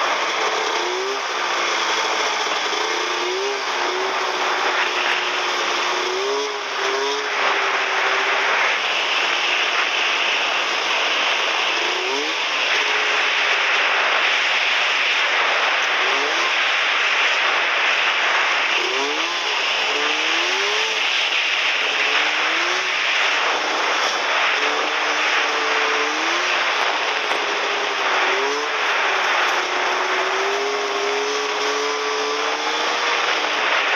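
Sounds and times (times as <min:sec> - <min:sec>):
rush of track and wind: 0:00.0 - 0:33.9
snowmobile engine revving: 0:00.0 - 0:33.9.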